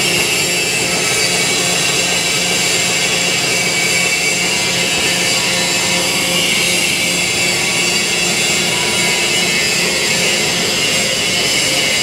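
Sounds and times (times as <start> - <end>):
loud machinery noise: 0.0 - 12.0.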